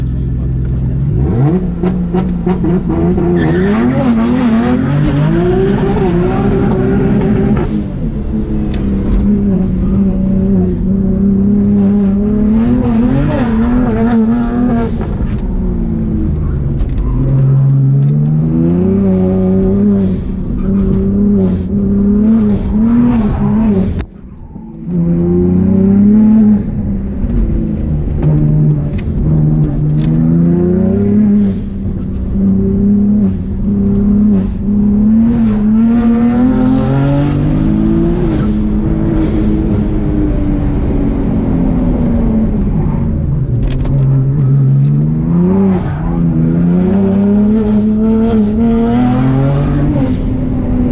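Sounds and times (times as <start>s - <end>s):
car engine revving through gears: 0.0s - 50.9s.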